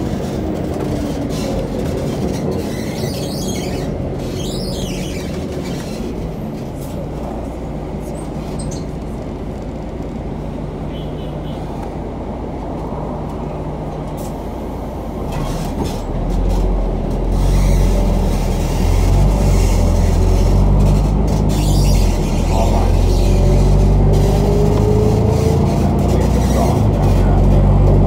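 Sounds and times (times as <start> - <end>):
bus engine idling: 0.0 - 28.0.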